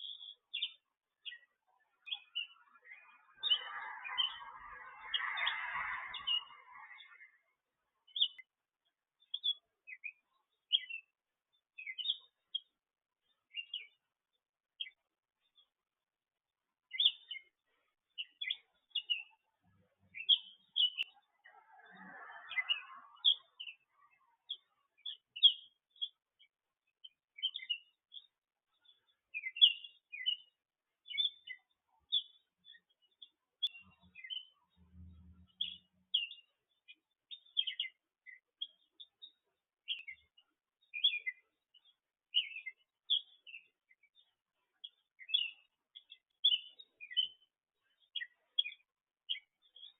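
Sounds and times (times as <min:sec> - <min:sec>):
songbird chirping: 0:00.0 - 0:49.9.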